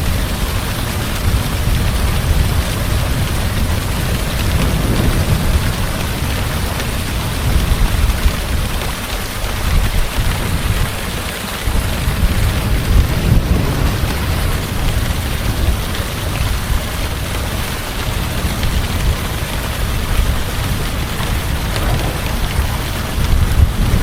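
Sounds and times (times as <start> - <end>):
heavy rain falling: 0.0 - 24.0
thunder rumbling: 1.5 - 8.8, 11.8 - 24.0.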